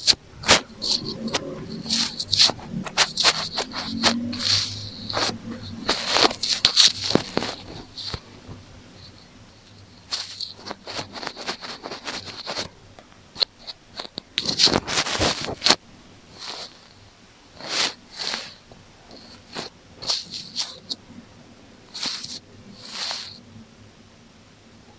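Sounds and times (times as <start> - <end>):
scratching and rubbing on earphone: 0.0 - 21.0, 21.9 - 23.4.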